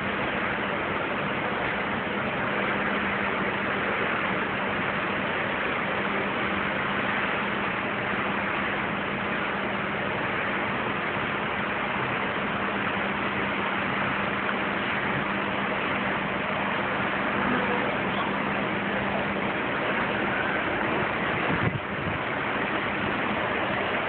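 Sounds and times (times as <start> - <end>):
ship machinery hum: 0.0 - 24.0
ship wake rushing: 0.0 - 24.0.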